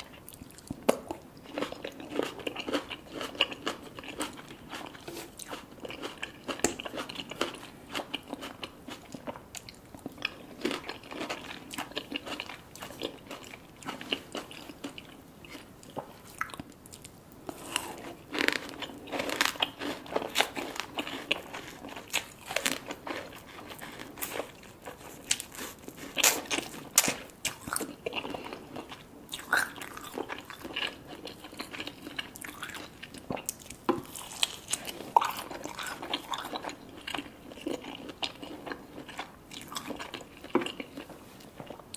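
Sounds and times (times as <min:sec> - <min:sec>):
crunchy food being chewed: 0:00.0 - 0:41.9.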